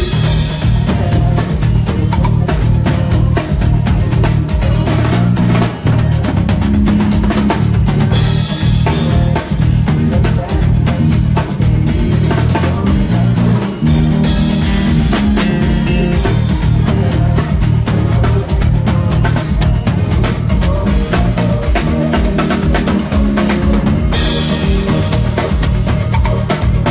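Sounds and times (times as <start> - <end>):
drum kit: 0.0 - 26.9
heavy bass line: 0.0 - 26.9
live band playing a groove: 0.0 - 26.9.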